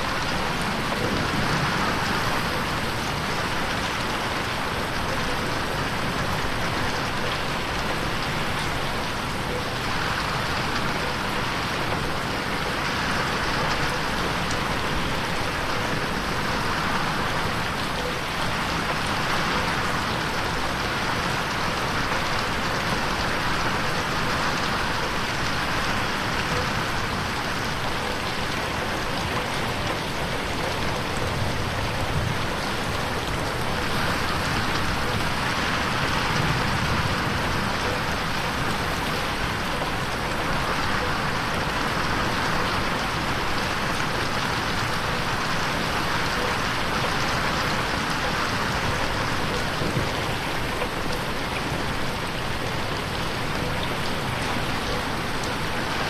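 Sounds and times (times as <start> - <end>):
rain pattering on window: 0.0 - 56.0.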